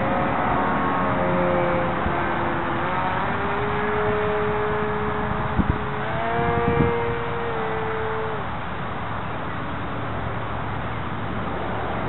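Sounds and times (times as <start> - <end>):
model plane motor whine: 0.0 - 12.0
rushing background noise: 0.0 - 12.0.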